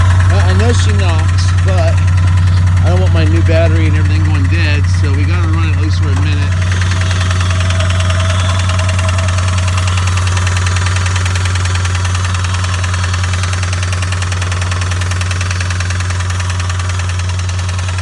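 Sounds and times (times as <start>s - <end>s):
car engine idling with knock: 0.0s - 18.0s.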